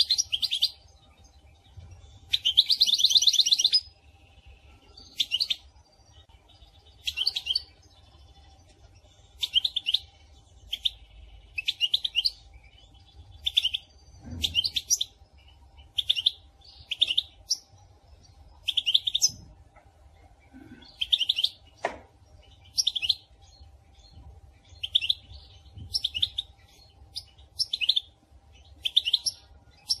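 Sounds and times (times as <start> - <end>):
goldfinch twittering chirps: 0.0 - 19.5, 20.8 - 30.0.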